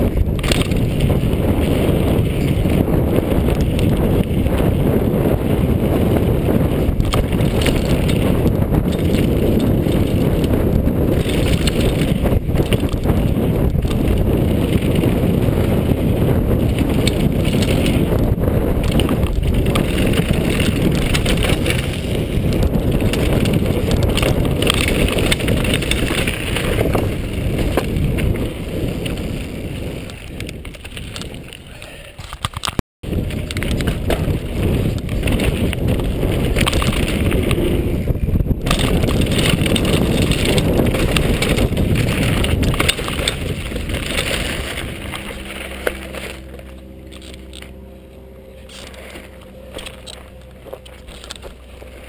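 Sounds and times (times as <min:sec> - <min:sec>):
bike rattling: 0:00.0 - 0:52.0
wind buffeting microphone: 0:00.0 - 0:52.0
tyres crunching on gravel: 0:06.1 - 0:52.0.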